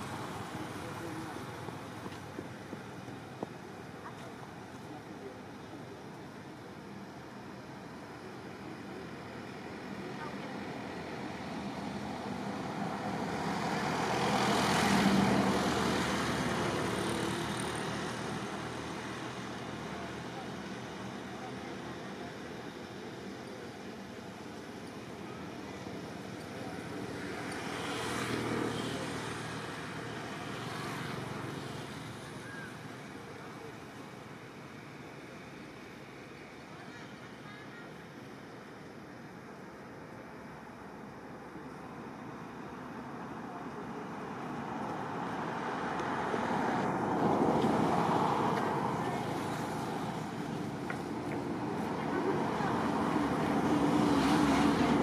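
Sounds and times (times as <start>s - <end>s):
road traffic rushing: 0.0s - 36.6s, 40.6s - 55.0s.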